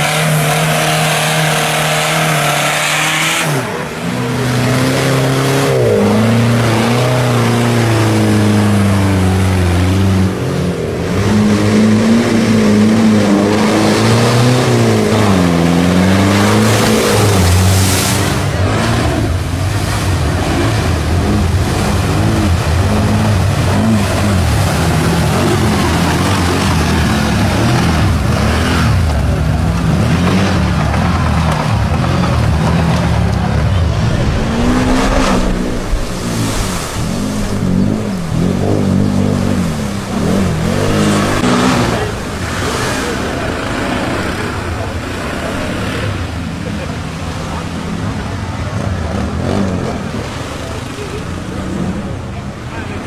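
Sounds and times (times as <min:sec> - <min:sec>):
off-road engines revving: 0:00.0 - 0:53.0.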